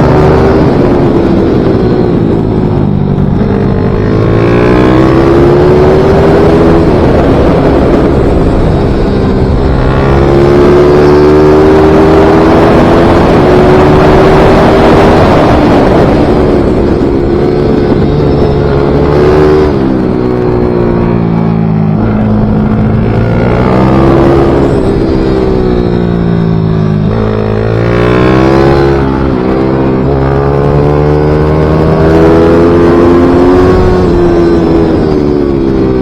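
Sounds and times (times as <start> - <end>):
small motorcycle engine revving: 0.0 - 36.0.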